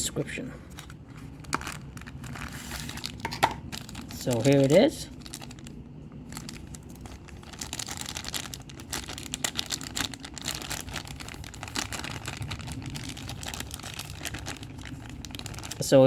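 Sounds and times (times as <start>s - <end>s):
plastic packaging crinkling: 0.7s - 16.0s.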